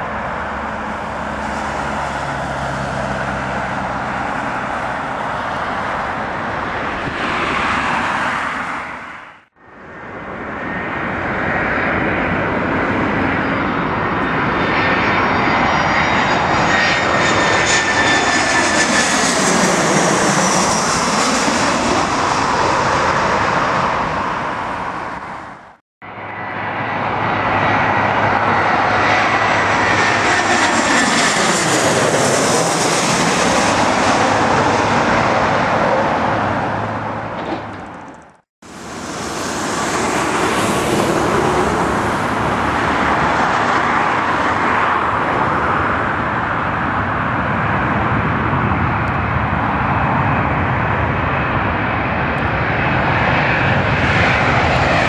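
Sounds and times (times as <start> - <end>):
jet airliner passing low overhead: 0.0 - 55.0.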